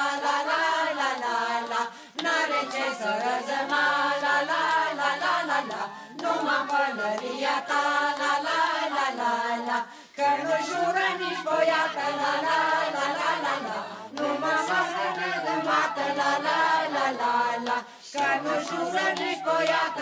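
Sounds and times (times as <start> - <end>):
person singing la la la: 0.0 - 20.0.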